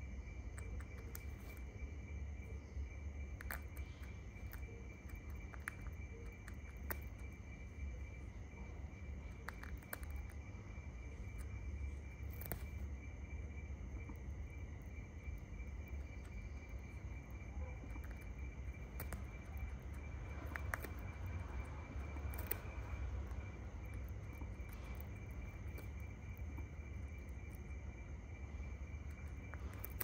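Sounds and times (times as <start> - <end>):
high insect trill: 0.0 - 30.0
low background rumble: 0.0 - 30.0.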